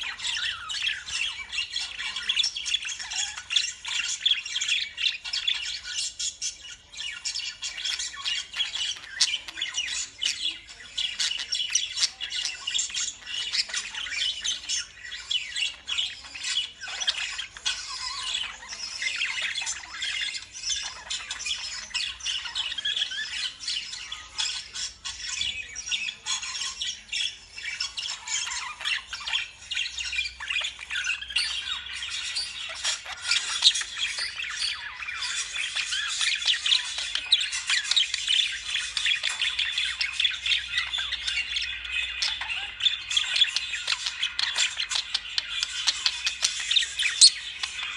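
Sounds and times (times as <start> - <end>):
lovebirds squawking and chirping: 0.0 - 47.9.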